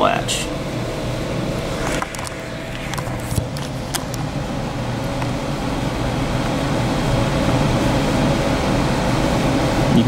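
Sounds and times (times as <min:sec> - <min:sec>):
fan-like mechanical hum: 0:00.0 - 0:10.0.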